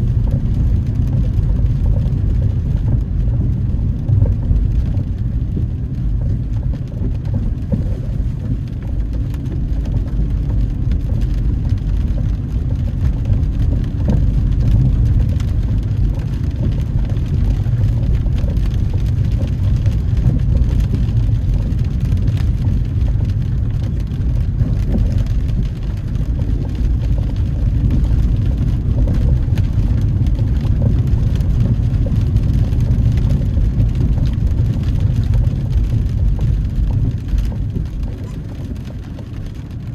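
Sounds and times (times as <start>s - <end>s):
car engine rumble: 0.0s - 39.9s
tyres on wet road: 0.0s - 39.9s.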